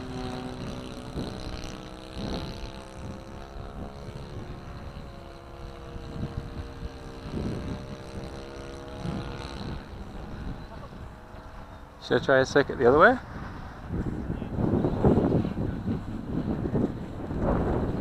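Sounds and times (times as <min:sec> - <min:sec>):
model plane engine: 0:00.0 - 0:18.0
wind buffeting microphone: 0:00.0 - 0:18.0.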